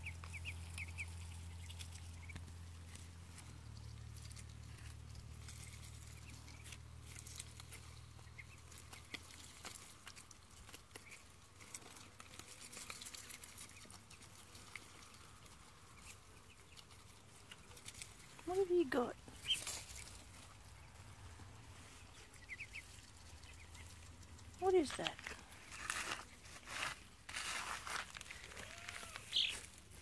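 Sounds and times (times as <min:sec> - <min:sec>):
ducks pecking at greens: 0:00.0 - 0:30.0.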